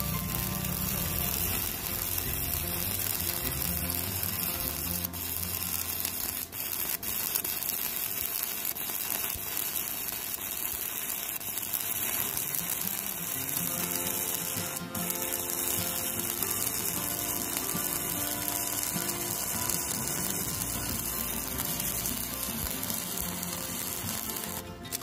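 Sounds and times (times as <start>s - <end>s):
welding arc crackling: 0.0s - 25.0s.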